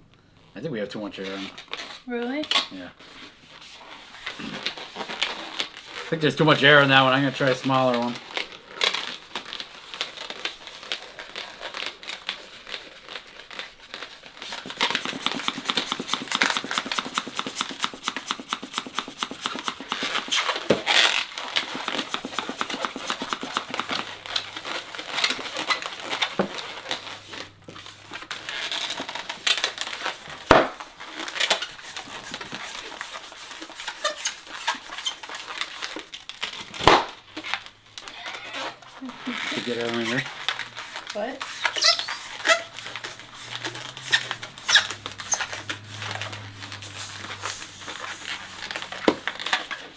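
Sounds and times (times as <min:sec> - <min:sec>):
balloons squeaking and crinkling: 0:01.2 - 0:49.9.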